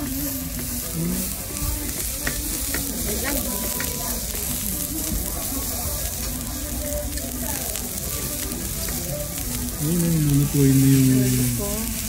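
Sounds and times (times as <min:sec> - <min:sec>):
meat sizzling on hot stone: 0:00.0 - 0:12.0.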